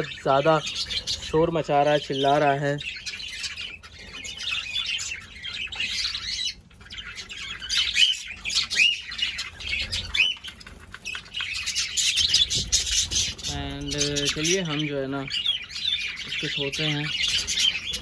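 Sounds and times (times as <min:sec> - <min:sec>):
budgerigars chattering and squawking: 0:00.0 - 0:18.0.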